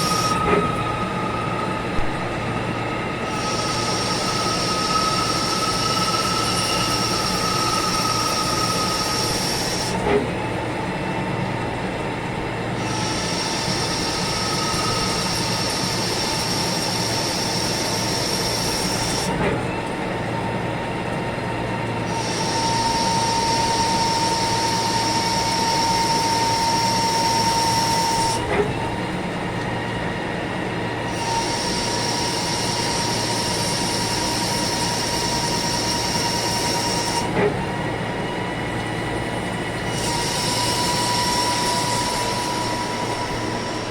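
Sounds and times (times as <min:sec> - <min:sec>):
lathe running with high whine: 0:00.0 - 0:43.9.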